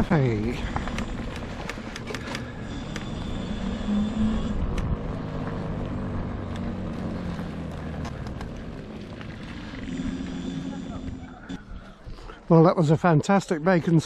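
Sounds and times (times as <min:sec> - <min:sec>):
electric motor hum: 0:00.0 - 0:11.8.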